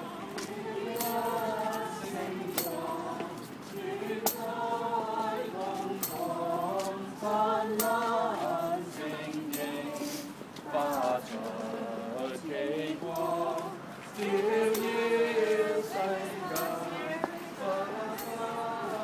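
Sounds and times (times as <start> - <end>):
group singing a carol: 0.0 - 19.0.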